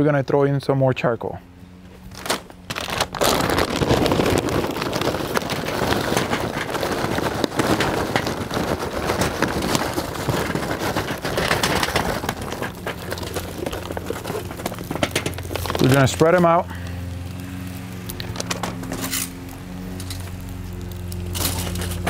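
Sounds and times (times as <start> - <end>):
charcoal clattering onto grill: 2.1 - 22.0.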